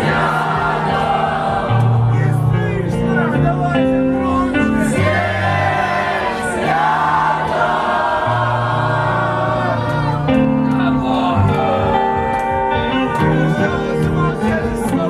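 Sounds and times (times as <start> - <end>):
rock band playing live: 0.0 - 7.2, 8.9 - 15.0
bass line: 0.0 - 15.0.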